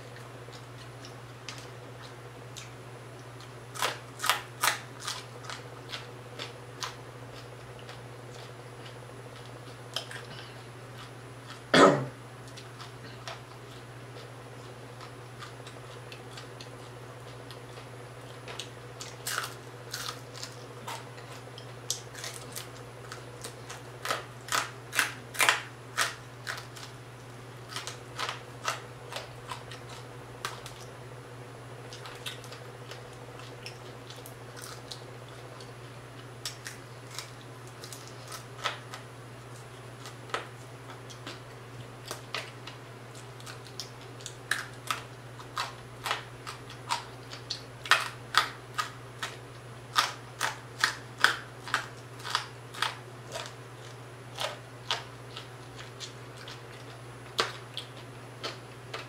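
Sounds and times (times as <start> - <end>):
crunchy fried fish chewing: 0.0 - 11.7, 12.4 - 31.0, 31.7 - 59.0
faint steady hum: 0.0 - 59.0.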